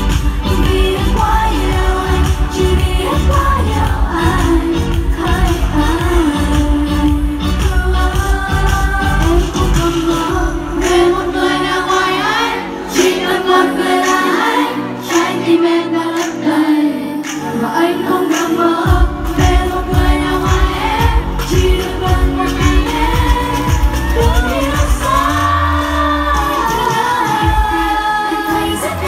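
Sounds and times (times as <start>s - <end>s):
pop backing track: 0.0s - 29.0s
woman singing pop song: 0.0s - 29.0s.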